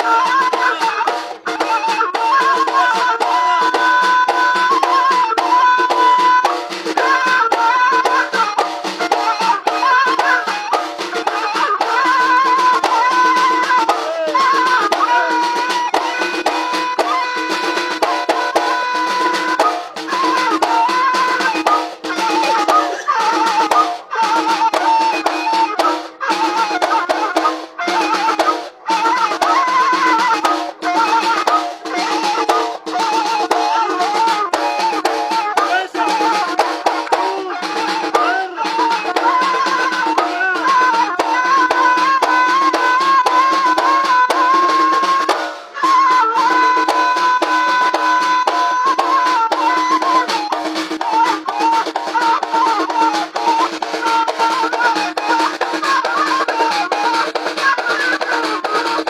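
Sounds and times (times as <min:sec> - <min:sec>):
frame drums beating: 0:00.0 - 0:59.0.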